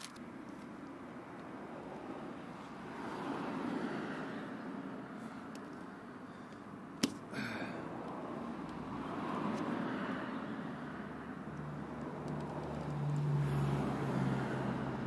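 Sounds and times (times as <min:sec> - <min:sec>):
road traffic noise: 0:00.0 - 0:15.0
passing vehicle engine hum: 0:00.4 - 0:15.0.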